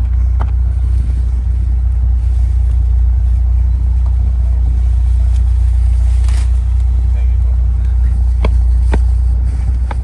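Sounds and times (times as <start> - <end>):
loud low rumble: 0.0 - 10.0.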